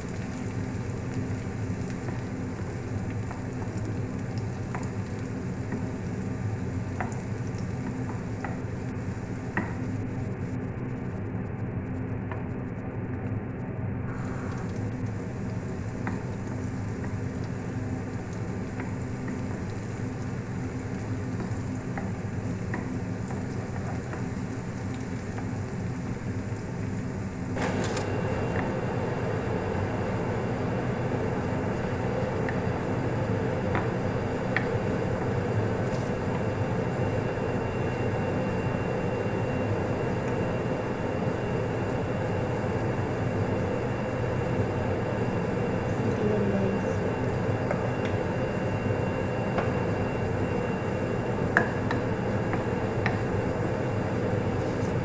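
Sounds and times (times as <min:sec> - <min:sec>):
garlic sizzling in hot oil: 0:00.0 - 0:10.3, 0:14.1 - 0:46.0, 0:46.8 - 0:55.0.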